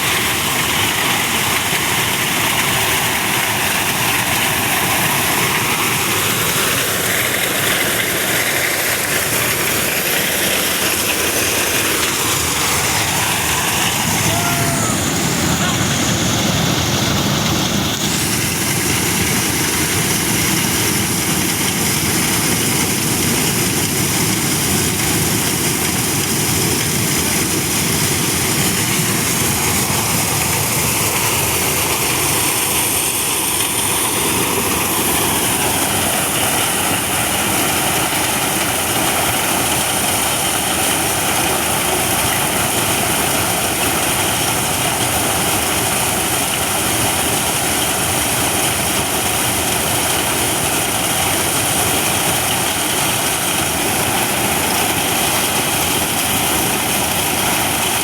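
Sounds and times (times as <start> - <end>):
corn thresher running: 0.0 - 58.0.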